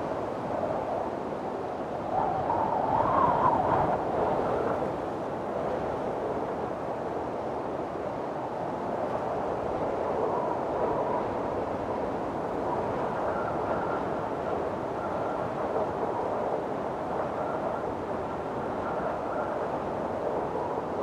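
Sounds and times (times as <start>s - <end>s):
faint thin wind whistle: 0.0s - 7.3s, 8.3s - 21.0s
wind blowing hard: 0.0s - 21.0s.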